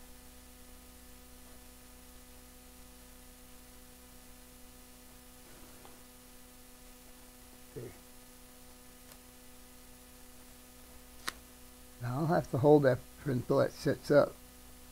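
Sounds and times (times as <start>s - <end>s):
faint electrical hum: 0.0s - 14.9s.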